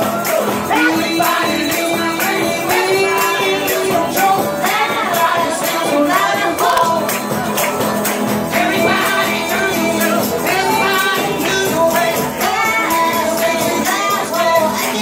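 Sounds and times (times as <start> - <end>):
person singing: 0.0 - 7.4, 8.5 - 15.0
strummed acoustic guitar: 0.0 - 15.0
tambourine jingling: 0.2 - 15.0.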